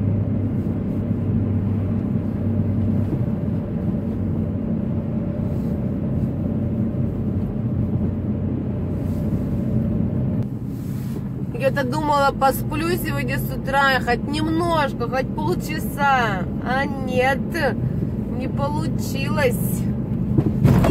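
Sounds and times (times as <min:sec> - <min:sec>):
car engine and tyre noise: 0:00.0 - 0:20.9.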